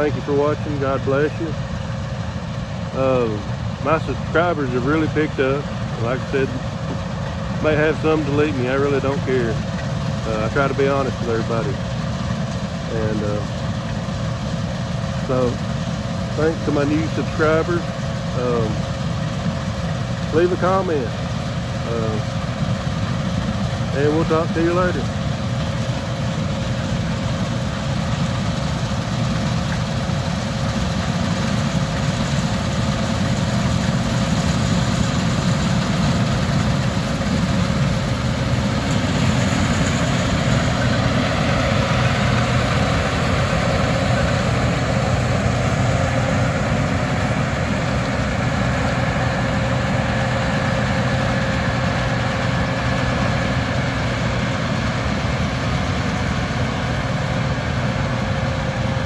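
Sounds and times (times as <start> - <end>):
heavy engine humming: 0.0 - 59.0.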